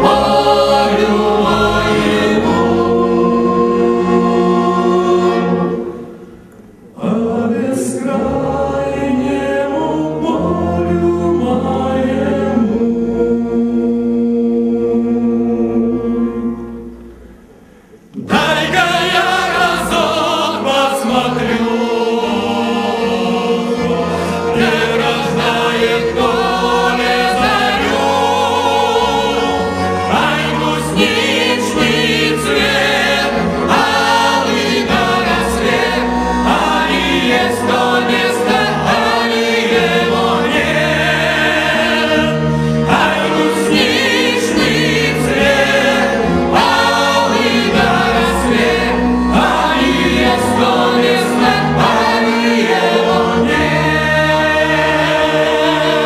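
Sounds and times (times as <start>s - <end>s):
choir singing a folk song: 0.0s - 17.0s, 18.1s - 56.0s.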